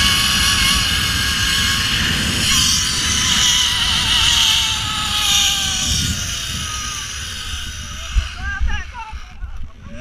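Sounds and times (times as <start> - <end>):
wind rumble on microphone: 0.0 - 10.0
zipline pulleys whining on cable: 0.0 - 10.0.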